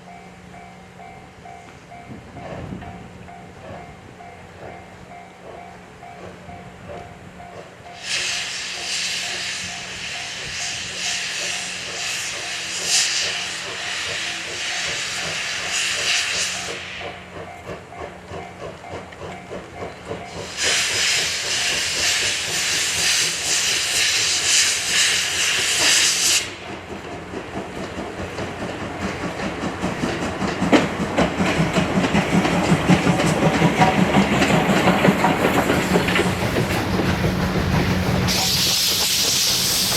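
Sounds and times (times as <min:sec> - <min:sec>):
locomotive chuffing: 0:00.5 - 0:39.9
steam locomotive venting steam: 0:05.0 - 0:39.9.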